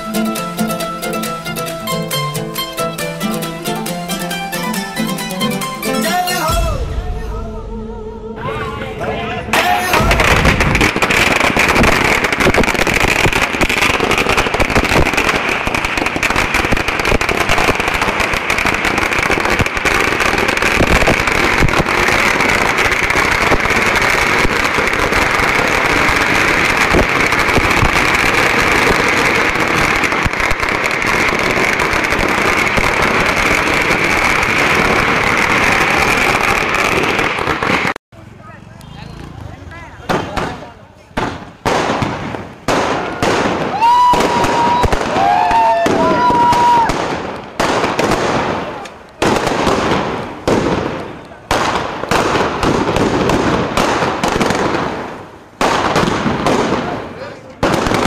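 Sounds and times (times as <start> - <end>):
firecrackers crackling: 9.5 - 58.0.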